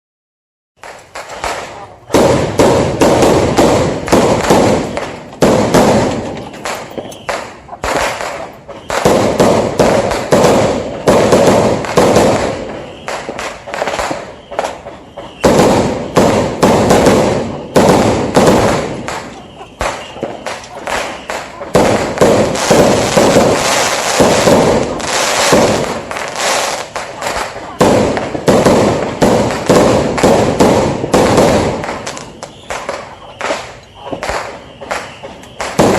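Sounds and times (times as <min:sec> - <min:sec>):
fireworks bangs: 0:00.8 - 0:35.9.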